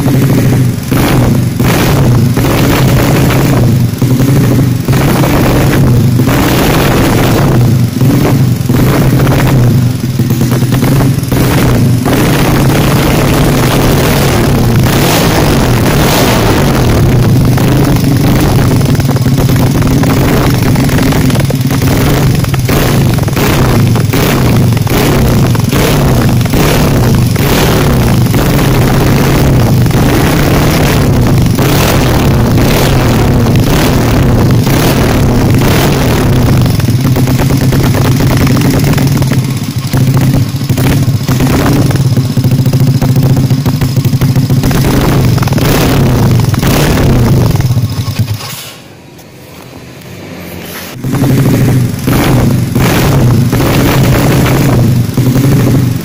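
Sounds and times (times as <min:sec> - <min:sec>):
motorcycle engine running loud: 0:00.0 - 0:48.8, 0:49.9 - 0:56.0.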